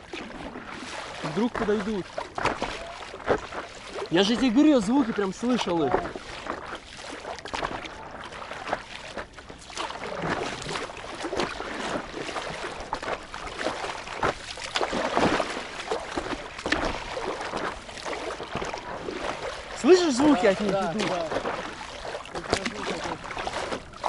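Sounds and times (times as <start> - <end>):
water splashing against paddleboard: 0.0 - 24.0.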